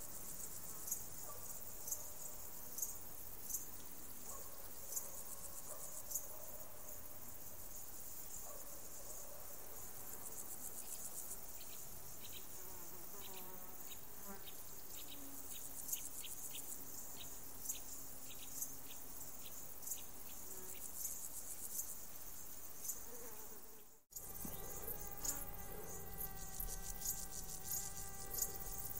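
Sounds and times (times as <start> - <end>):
insects chirring: 0.0 - 28.9.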